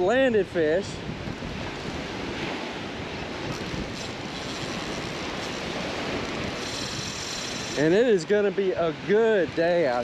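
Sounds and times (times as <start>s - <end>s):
ocean surf breaking: 0.0s - 10.0s
wind on microphone: 0.0s - 10.0s.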